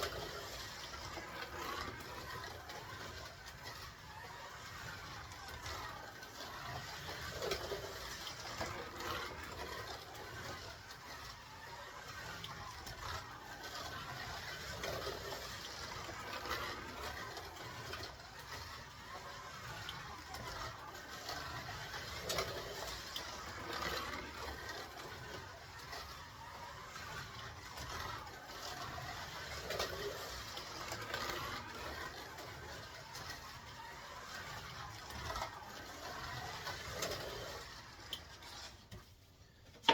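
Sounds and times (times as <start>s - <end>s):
slot car motor whirring: 0.0s - 39.9s.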